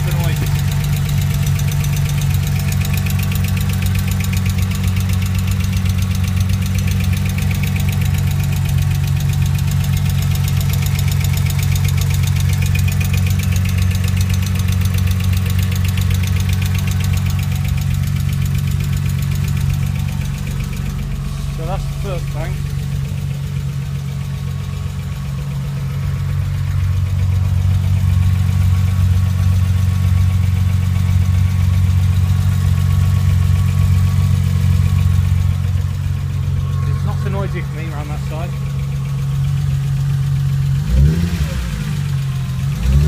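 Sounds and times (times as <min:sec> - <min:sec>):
engine idling with tappet ticking: 0:00.0 - 0:43.0.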